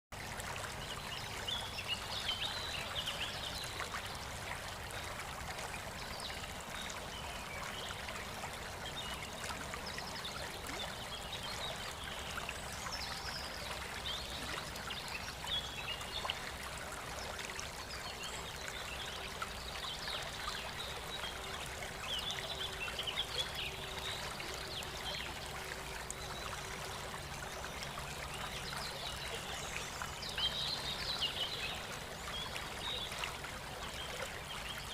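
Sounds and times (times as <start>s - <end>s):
stream trickling: 0.1s - 34.9s.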